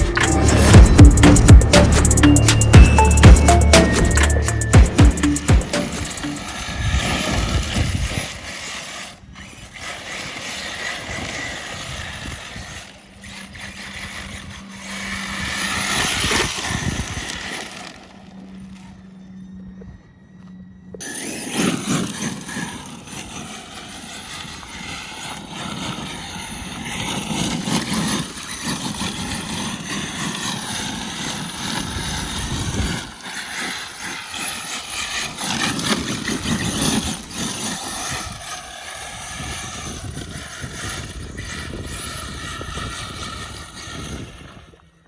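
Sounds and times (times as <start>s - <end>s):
electric motor whining: 0.0s - 45.0s
tires on gravel: 0.0s - 45.0s.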